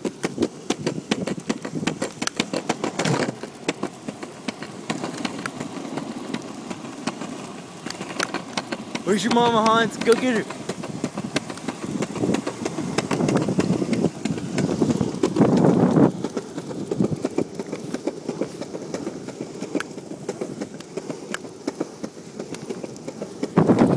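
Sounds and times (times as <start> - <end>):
longboard wheels rolling on concrete: 0.0 - 23.9.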